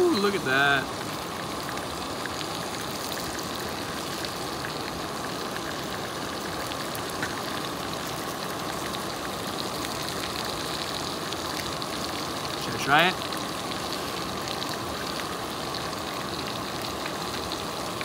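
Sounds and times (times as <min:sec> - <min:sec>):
camping stove hissing: 0:00.0 - 0:18.0
fish frying in a pan: 0:00.0 - 0:18.0.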